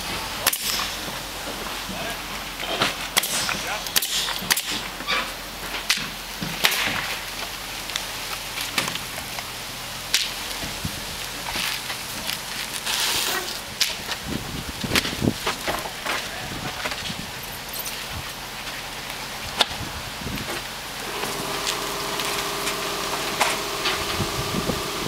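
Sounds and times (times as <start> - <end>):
shingles scraping and rustling: 0.0 - 25.0.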